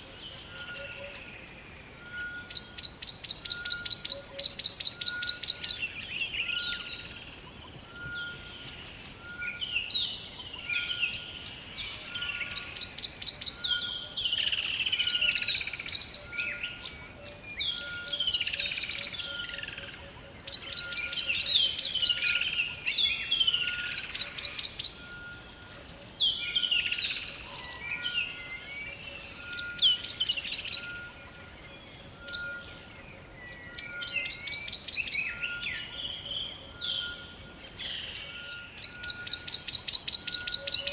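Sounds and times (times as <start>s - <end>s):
warbling birdsong: 0.0s - 40.9s.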